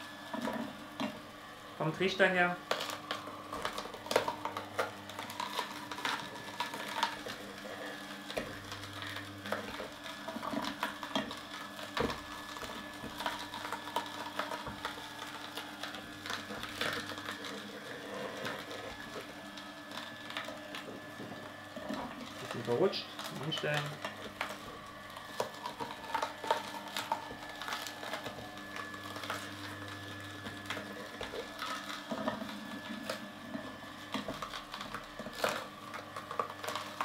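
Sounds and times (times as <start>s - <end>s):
juicer motor hum: 0.0s - 37.0s
carrot cracking and crunching: 2.6s - 37.0s.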